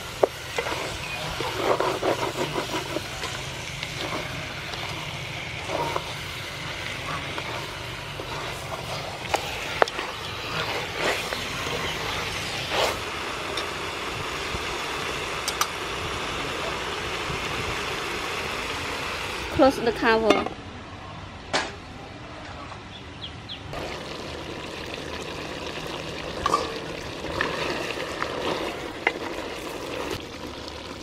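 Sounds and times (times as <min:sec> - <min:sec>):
chicken sizzling in oil: 0:00.0 - 0:19.6, 0:23.8 - 0:31.0.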